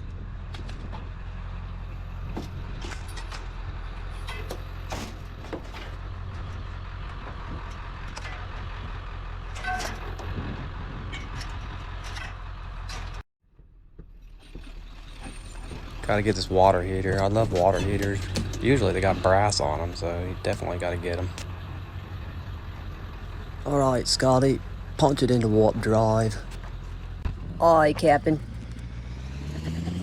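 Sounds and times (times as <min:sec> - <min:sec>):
vehicle engine drone: 0:00.0 - 0:30.0.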